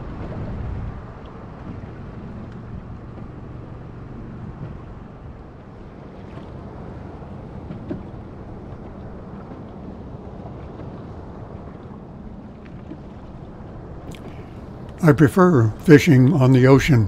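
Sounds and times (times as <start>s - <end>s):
wind buffeting microphone: 0.0s - 15.0s
water along a hull: 0.0s - 17.0s.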